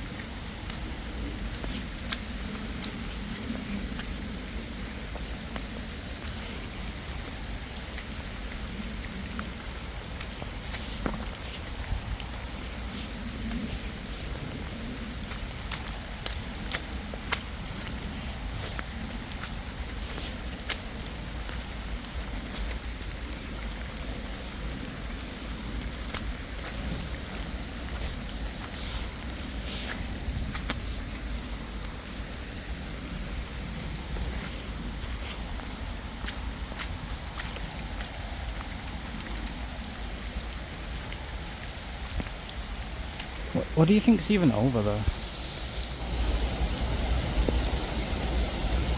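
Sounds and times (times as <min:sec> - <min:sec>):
constant low rumble: 0:00.0 - 0:48.9
steady rain hiss: 0:00.0 - 0:48.9.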